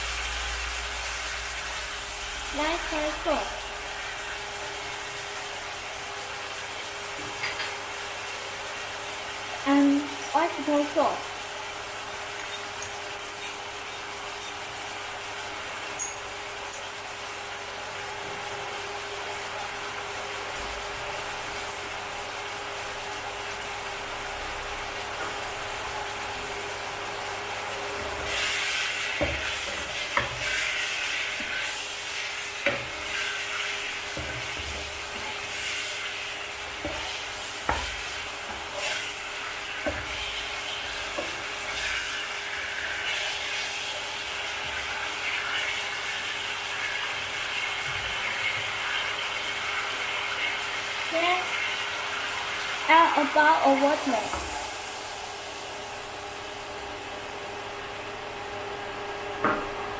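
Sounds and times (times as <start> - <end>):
meat sizzling in a wok: 0.0 - 59.4.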